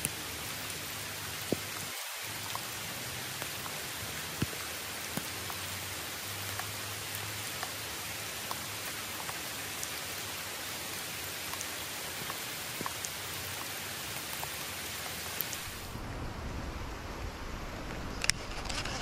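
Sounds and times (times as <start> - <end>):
raindrops ticking close by: 0.0 - 18.8
steady rain falling: 0.0 - 19.0.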